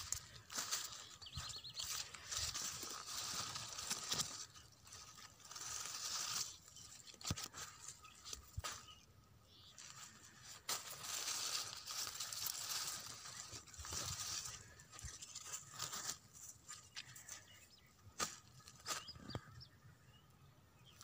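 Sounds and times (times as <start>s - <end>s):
leaves rustling near microphone: 0.0s - 19.6s.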